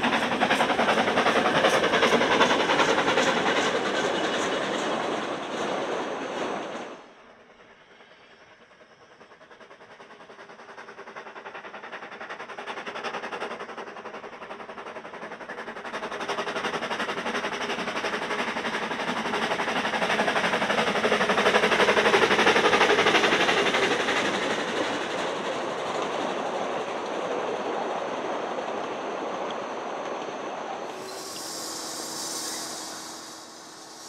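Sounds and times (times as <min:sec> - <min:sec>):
steam locomotive chuffing: 0:00.0 - 0:28.7, 0:30.9 - 0:34.0
train coaches rolling past: 0:00.0 - 0:34.0.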